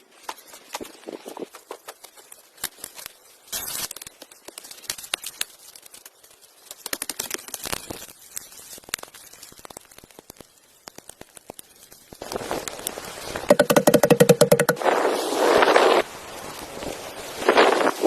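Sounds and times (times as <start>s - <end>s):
crackling and rustling: 0.0s - 18.0s.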